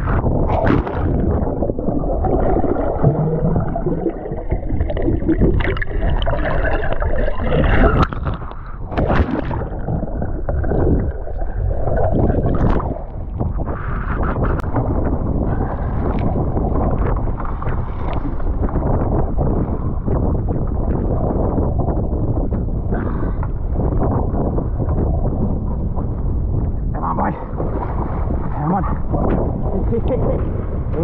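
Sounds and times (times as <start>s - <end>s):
water splashing around kayak: 0.0s - 31.0s.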